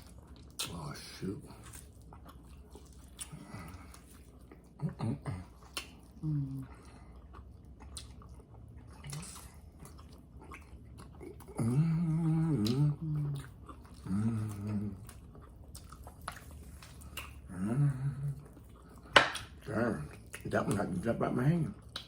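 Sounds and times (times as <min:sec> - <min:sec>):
person chewing food: 0:00.0 - 0:21.1, 0:21.7 - 0:22.0.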